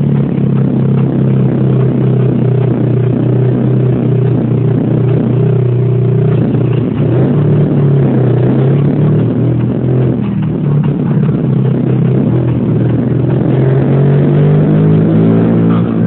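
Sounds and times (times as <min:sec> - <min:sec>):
car engine from inside cabin: 0:00.0 - 0:16.0.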